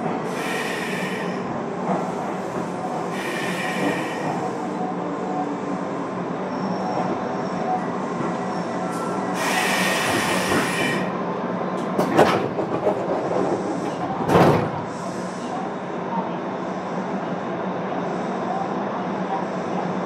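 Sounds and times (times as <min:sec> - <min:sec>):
train wheels running on rails: 0:00.0 - 0:16.2.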